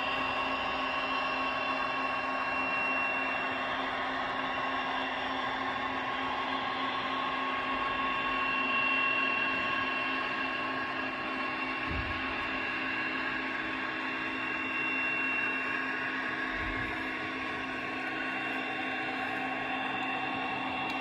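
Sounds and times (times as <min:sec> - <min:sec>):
model locomotive diesel engine sound: 0:00.0 - 0:21.0.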